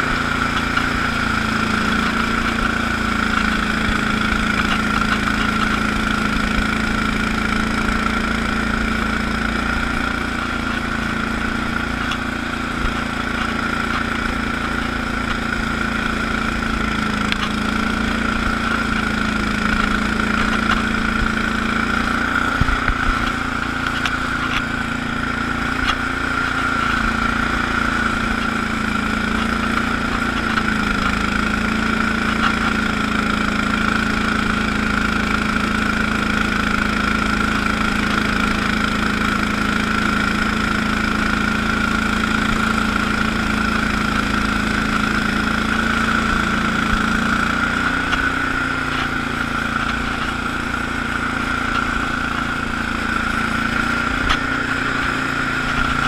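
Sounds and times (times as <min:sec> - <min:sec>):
high whine of rotary broom: 0:00.0 - 0:56.0
tractor engine running: 0:00.0 - 0:56.0.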